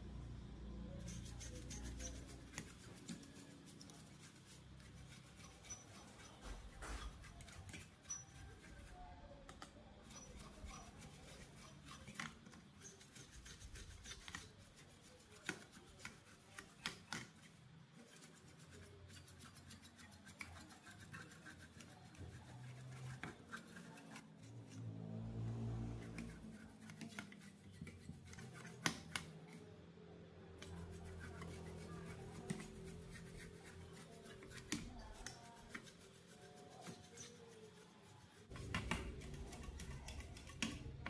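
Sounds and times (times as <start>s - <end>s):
tools scraping and rubbing: 0.9s - 29.8s, 30.6s - 41.0s.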